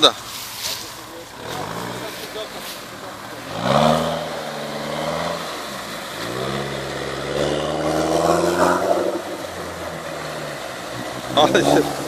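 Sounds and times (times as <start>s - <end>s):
suv engine revving: 1.3s - 12.0s.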